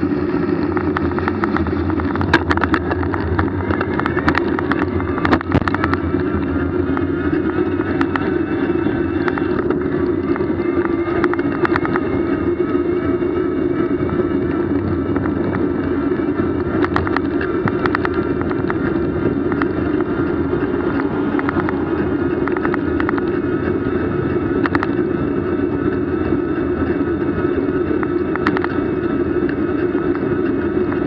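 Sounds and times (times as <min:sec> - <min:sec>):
sharp clicks and rattles: 0:00.0 - 0:13.2, 0:13.8 - 0:31.0
vehicle humming: 0:00.0 - 0:31.0.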